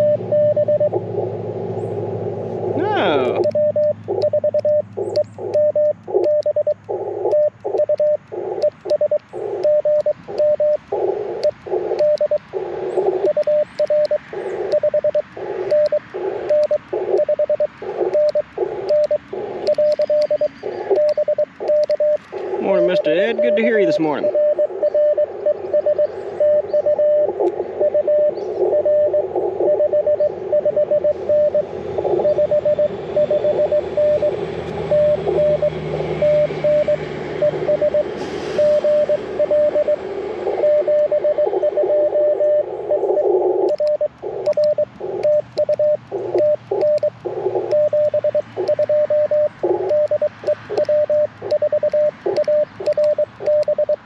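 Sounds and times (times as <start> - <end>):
morse code beeping: 0.0 - 1.2, 2.6 - 54.0
radio band hiss: 1.0 - 4.2, 4.8 - 54.0.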